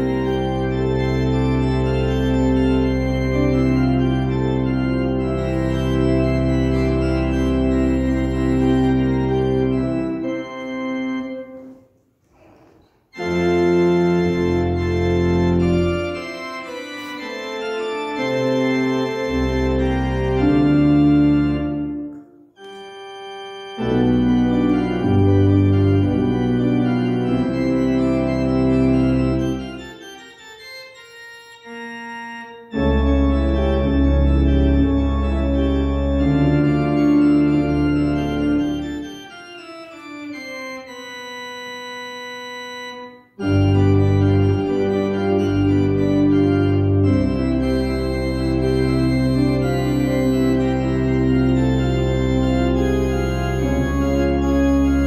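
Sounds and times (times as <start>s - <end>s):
church organ chords: 0.0s - 12.0s, 13.1s - 55.0s.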